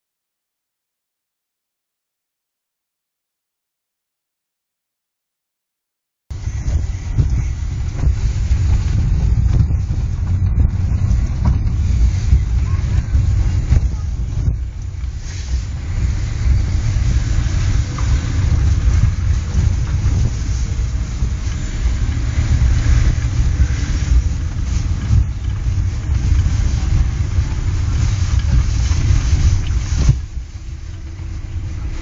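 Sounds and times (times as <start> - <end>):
car cabin rumble: 6.3 - 32.0
road and wind noise: 6.3 - 32.0.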